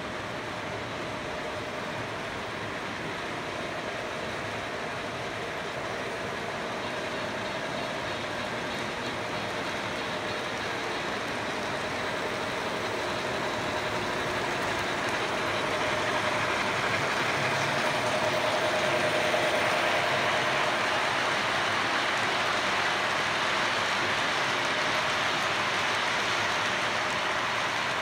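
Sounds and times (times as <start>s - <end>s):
faint motor whine: 0.0s - 28.0s
model train wheels rumbling on rail: 0.0s - 28.0s.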